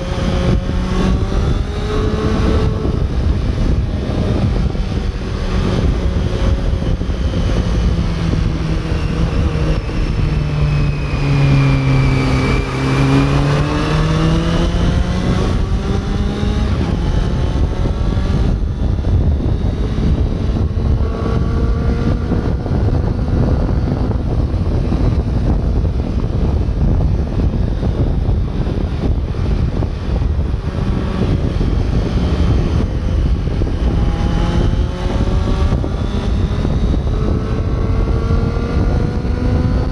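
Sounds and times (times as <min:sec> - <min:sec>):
motorcycle engine while riding: 0:00.0 - 0:39.9
wind and road noise: 0:00.0 - 0:39.9.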